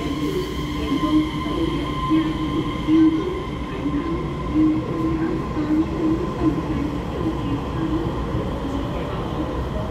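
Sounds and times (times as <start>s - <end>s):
electric train running rumble: 0.0s - 9.9s
high train whine: 0.0s - 9.9s.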